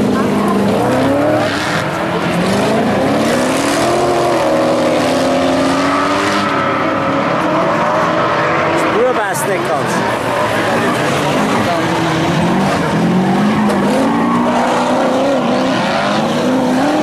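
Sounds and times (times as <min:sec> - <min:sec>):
stock car engines racing: 0:00.0 - 0:17.0.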